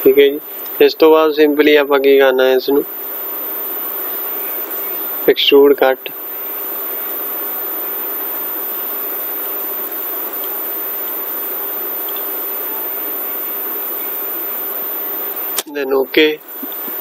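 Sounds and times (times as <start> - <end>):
faint low hum: 0.0 - 17.0
steady background hiss: 0.0 - 17.0.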